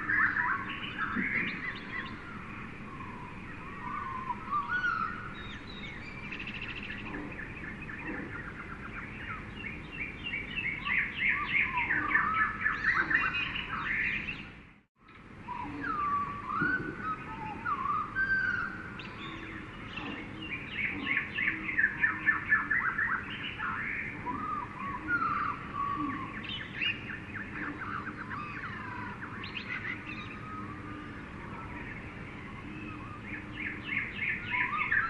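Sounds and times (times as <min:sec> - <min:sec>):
birds chirping: 0:00.0 - 0:35.0
steady background hiss: 0:00.0 - 0:35.0.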